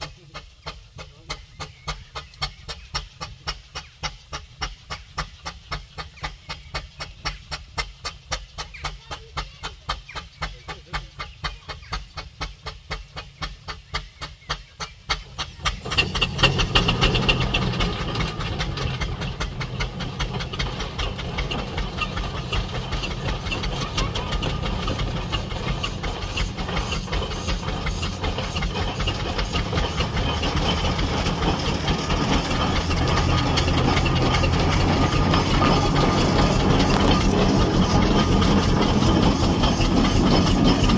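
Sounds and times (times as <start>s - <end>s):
loud hiss of steam: 0.0s - 40.9s
steam engine running: 0.0s - 40.9s.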